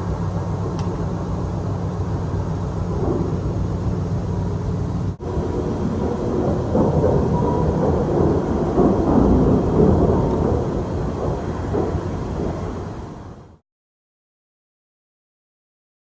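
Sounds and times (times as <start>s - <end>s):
deep rumbling drone: 0.0s - 13.6s.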